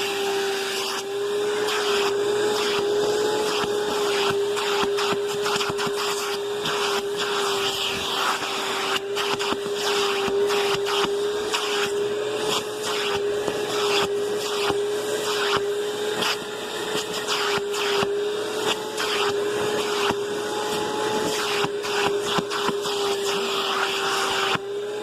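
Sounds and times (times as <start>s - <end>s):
vacuum cleaner motor whine: 0.0s - 25.0s.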